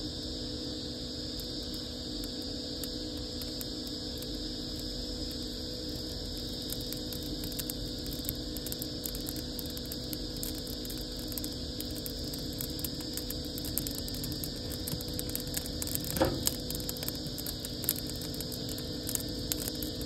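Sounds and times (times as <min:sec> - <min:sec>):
leaves and twigs crackling in fire: 0:00.0 - 0:20.0
steady mechanical hum: 0:00.0 - 0:20.0.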